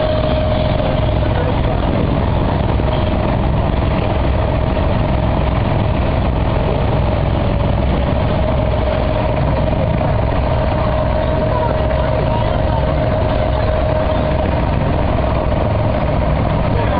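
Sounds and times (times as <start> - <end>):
boat diesel engine rumbling: 0.0 - 16.9.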